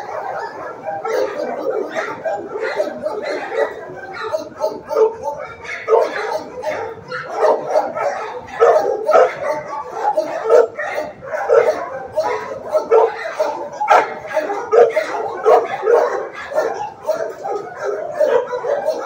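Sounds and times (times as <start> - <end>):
dogs barking: 0.0 - 19.0.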